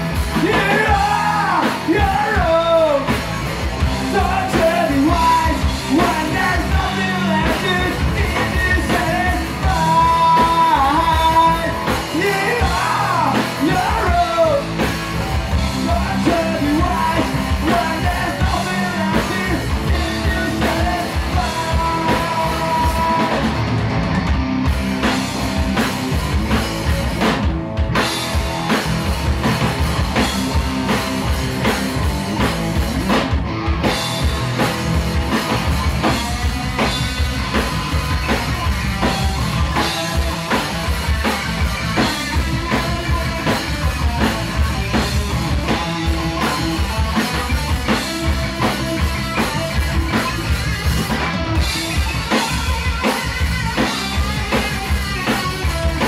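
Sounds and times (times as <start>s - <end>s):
distorted electric guitar: 0.0s - 56.0s
drum kit beat: 0.0s - 56.0s
electric bass: 0.0s - 56.0s.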